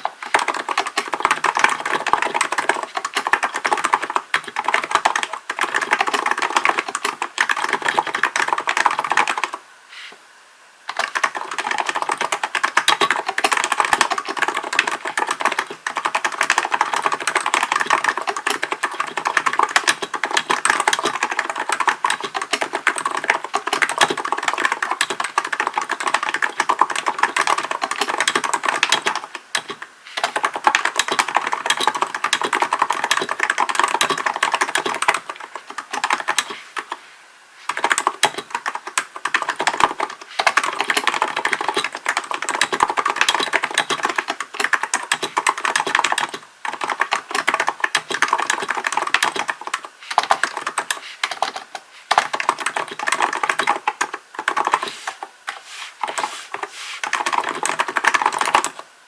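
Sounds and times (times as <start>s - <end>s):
keyboard typing: 0.0s - 9.6s, 10.9s - 37.0s, 37.6s - 58.9s.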